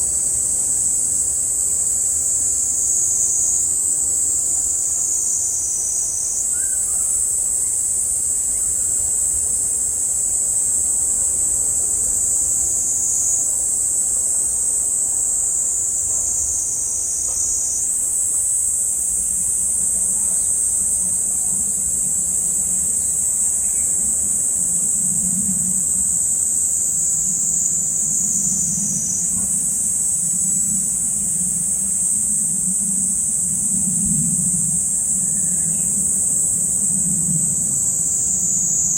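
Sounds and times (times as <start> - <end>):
cicadas shrilling: 0.0 - 38.9.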